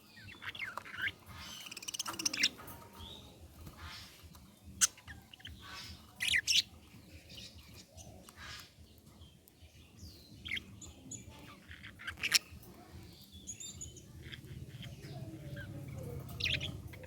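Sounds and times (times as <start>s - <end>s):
budgerigar chirping and chattering: 0.0s - 17.0s.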